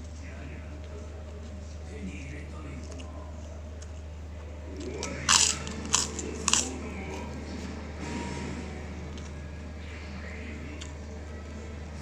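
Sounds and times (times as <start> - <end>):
crunchy food being chewed: 0.0 - 7.6, 9.0 - 12.0
song playing quietly: 0.0 - 12.0
steady low hum: 0.0 - 12.0.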